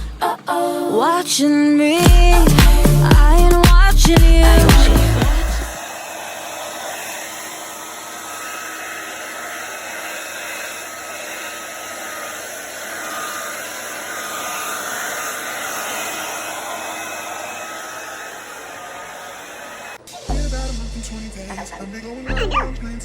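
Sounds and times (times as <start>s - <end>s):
hair dryer blowing: 0.0s - 20.3s.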